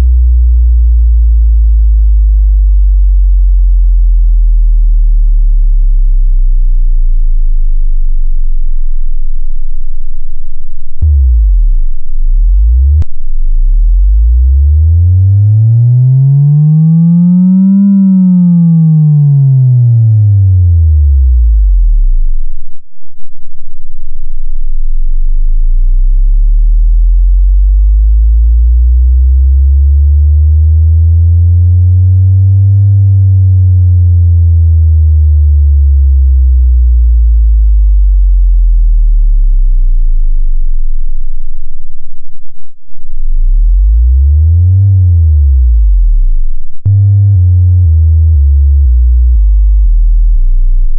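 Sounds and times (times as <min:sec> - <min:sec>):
deep bass sine tone sliding: 0:00.0 - 0:50.9
stepped low bass notes: 0:00.0 - 0:50.9.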